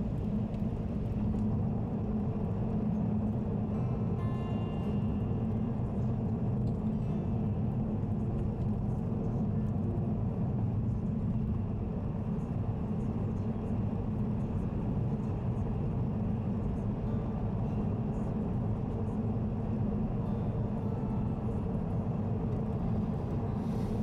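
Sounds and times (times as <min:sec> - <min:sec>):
car tyres and engine rumbling: 0:00.0 - 0:24.0.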